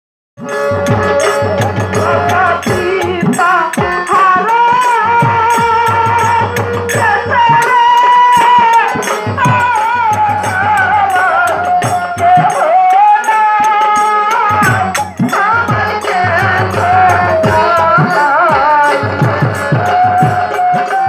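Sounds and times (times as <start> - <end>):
barrel drum beat: 0.4 - 21.0
harmonium: 0.4 - 21.0
sharp percussion strokes: 0.4 - 21.0
woman singing into a microphone: 1.6 - 21.0.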